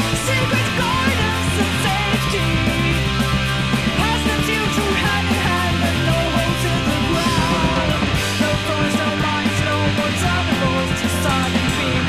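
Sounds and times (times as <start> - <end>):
bass line: 0.0 - 12.0
drums and cymbals: 0.0 - 12.0
electric guitar: 0.0 - 12.0.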